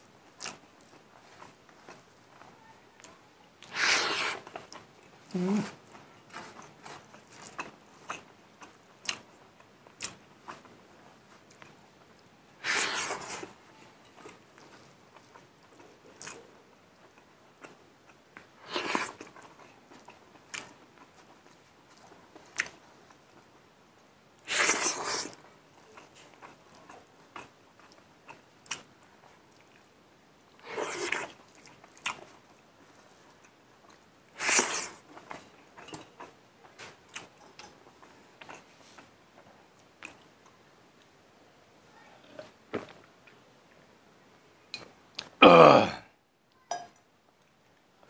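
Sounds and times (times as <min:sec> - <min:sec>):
man chewing food wetly: 0:00.0 - 0:41.2.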